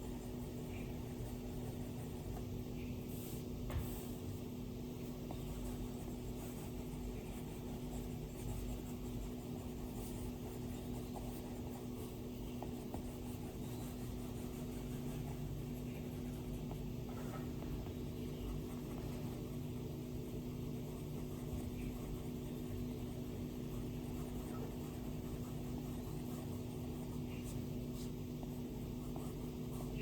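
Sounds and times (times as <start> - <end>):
stylus ticks and scratching on screen: 0.0 - 4.4, 5.0 - 30.0
steady low hum: 0.0 - 30.0.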